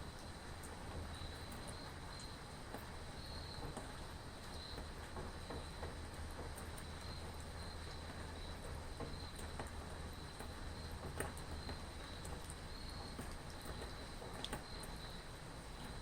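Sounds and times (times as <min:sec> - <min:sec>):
raindrops ticking close by: 0:00.0 - 0:16.0
steady rain: 0:00.0 - 0:16.0.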